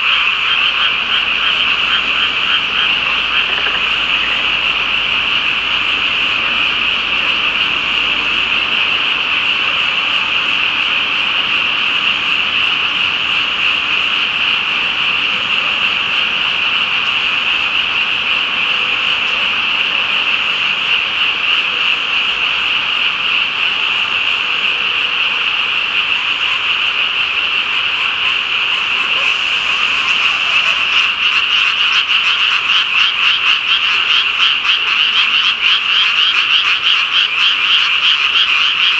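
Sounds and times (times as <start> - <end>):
frog chorus trilling: 0.0 - 38.9
rapidly pulsing frog calls: 0.0 - 38.9.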